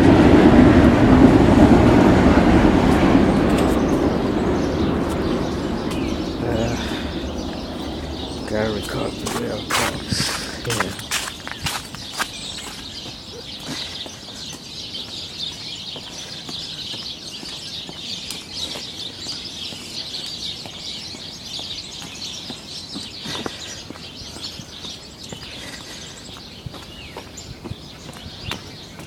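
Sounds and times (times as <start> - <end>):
small birds chirping: 2.9 - 29.0.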